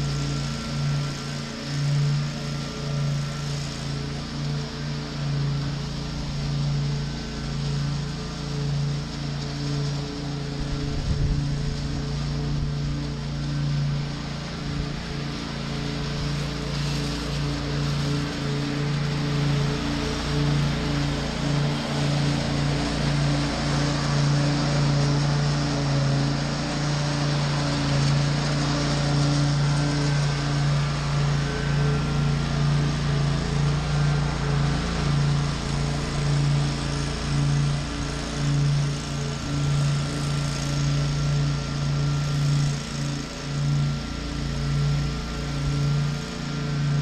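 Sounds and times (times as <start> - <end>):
mower engine droning: 0.0 - 47.0.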